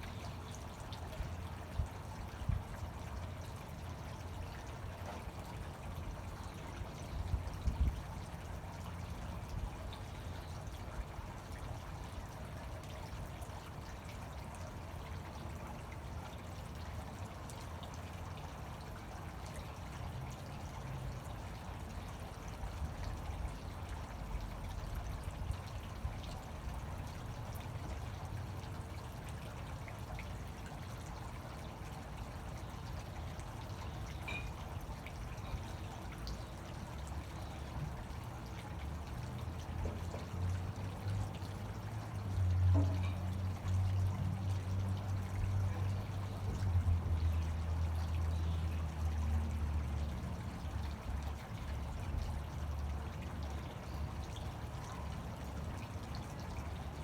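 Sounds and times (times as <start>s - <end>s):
fountain water splashing into basin: 0.0s - 57.0s.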